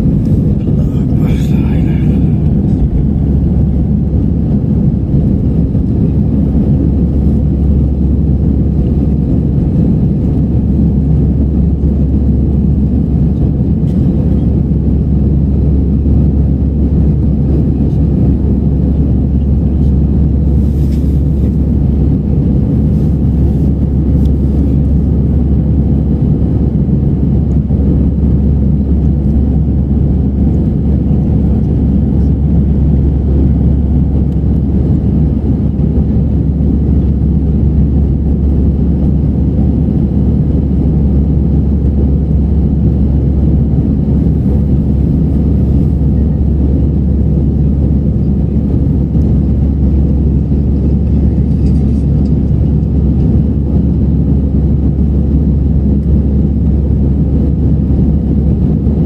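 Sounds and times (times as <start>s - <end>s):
airflow over fuselage: 0.0s - 59.0s
jet engines at climb power: 0.0s - 59.0s.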